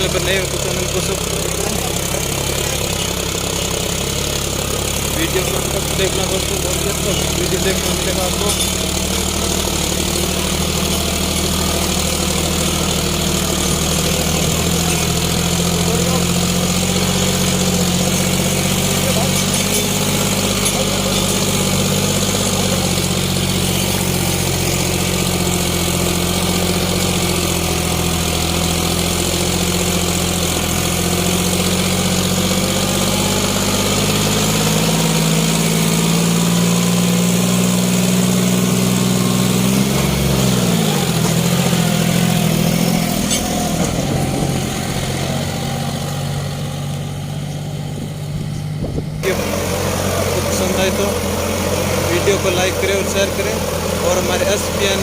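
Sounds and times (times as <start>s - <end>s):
tractor engine under heavy load: 0.0s - 55.0s.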